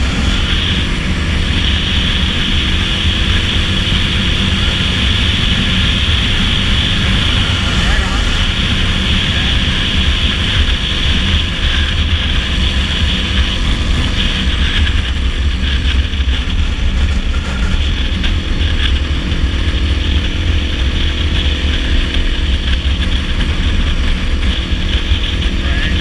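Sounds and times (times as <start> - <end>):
dirt bike engine running: 0.0 - 26.0
wind rumble on microphone: 0.0 - 26.0.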